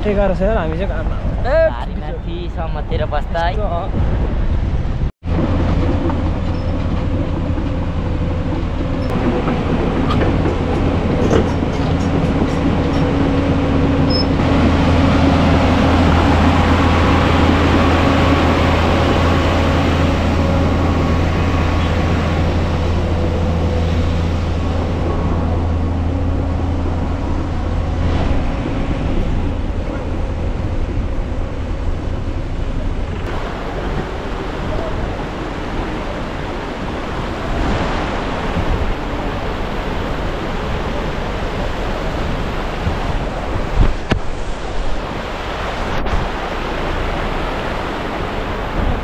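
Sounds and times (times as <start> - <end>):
road rumble: 0.0 - 49.0
van engine drone: 4.2 - 49.0.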